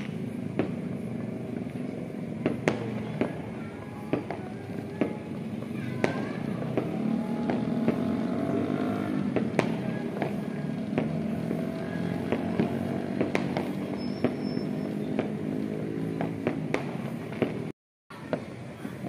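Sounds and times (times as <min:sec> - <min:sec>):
distant fireworks popping and banging: 0:00.0 - 0:19.0.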